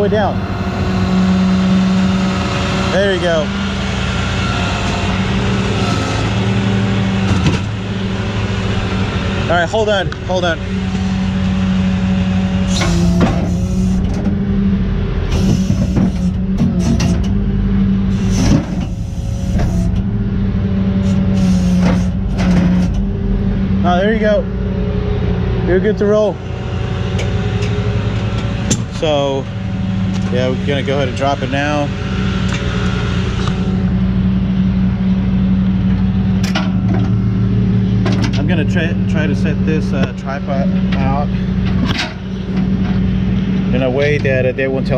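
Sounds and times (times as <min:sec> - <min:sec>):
truck engine humming: 0:00.0 - 0:44.9.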